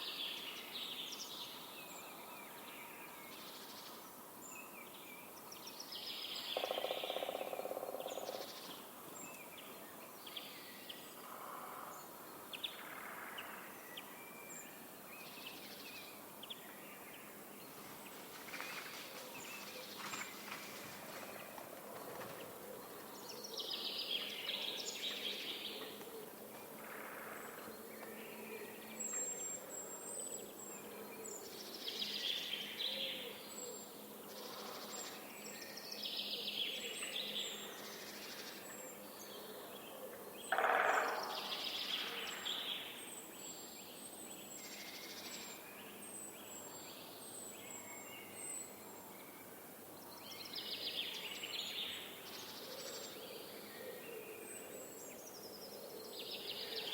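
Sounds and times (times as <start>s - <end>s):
outdoor background hiss: 0.0s - 56.9s.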